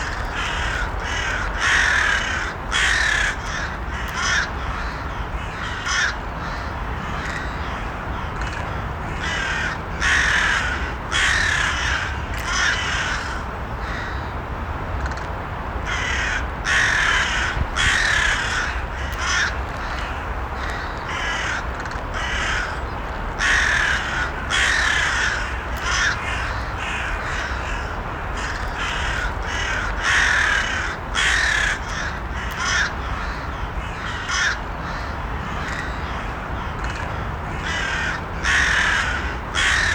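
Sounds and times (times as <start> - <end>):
crows cawing: 0.0 - 14.3, 15.8 - 39.9.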